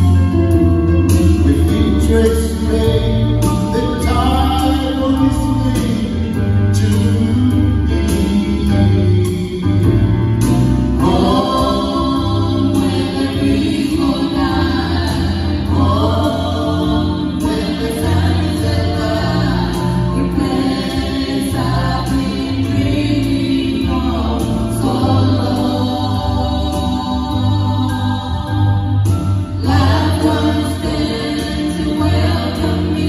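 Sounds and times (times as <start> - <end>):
group singing gospel song: 0.0 - 33.0.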